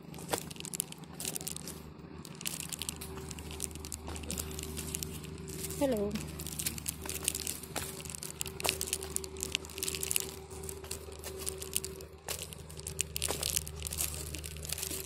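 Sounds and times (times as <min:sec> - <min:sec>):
faint steady hum: 0:00.0 - 0:15.0
footsteps crunching dry leaves: 0:00.0 - 0:15.0.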